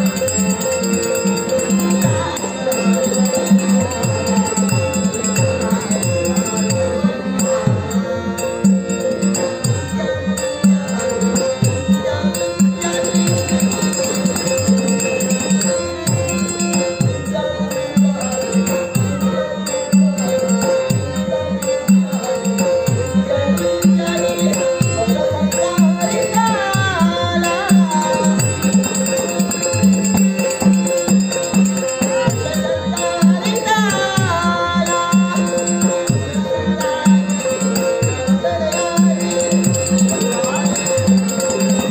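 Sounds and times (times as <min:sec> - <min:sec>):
harmonium tones: 0:00.0 - 0:41.9
jingling percussion: 0:00.0 - 0:41.9.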